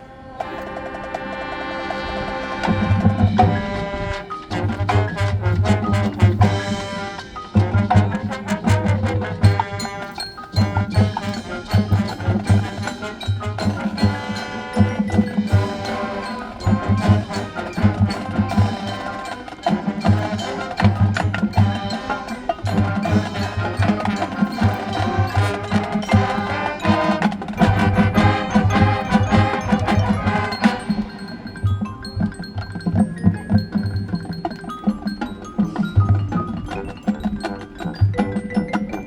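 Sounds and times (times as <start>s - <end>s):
mallet instruments: 0.0s - 39.0s
marching band playing: 0.0s - 39.0s
rapid drum strokes: 0.4s - 33.3s.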